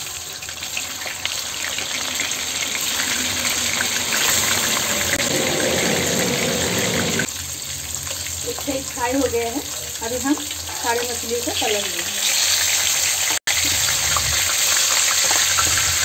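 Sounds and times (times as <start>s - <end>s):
fish frying in oil: 0.0s - 16.0s.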